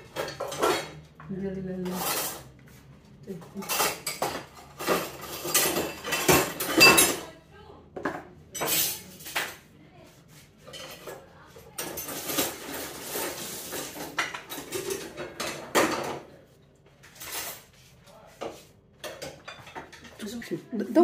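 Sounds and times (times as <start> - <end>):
dishes and cutlery clattering: 0.0 - 2.6, 3.3 - 7.4, 8.0 - 9.7, 10.6 - 21.0.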